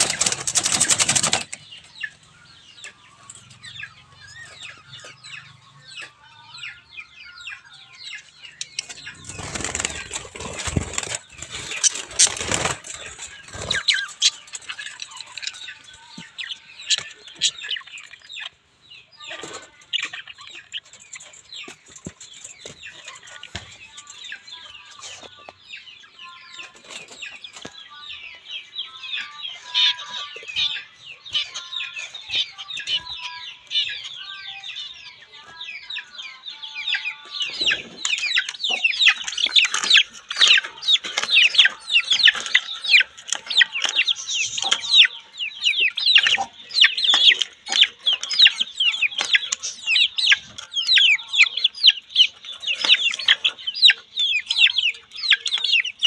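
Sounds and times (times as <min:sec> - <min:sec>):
budgerigars chirping and warbling: 0:00.0 - 0:56.0
chicks clucking and cheeping: 0:00.0 - 0:56.0.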